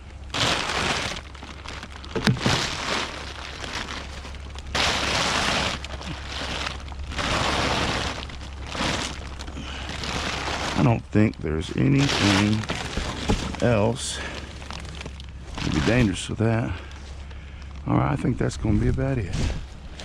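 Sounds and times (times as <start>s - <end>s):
rustling and crinkling junk: 0.0s - 20.0s.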